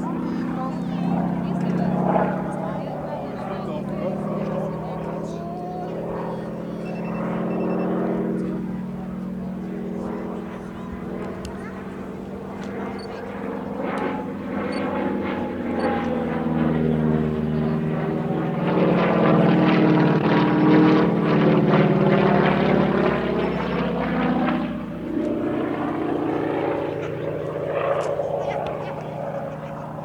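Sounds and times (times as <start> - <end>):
propeller plane flying by: 0.0 - 30.0.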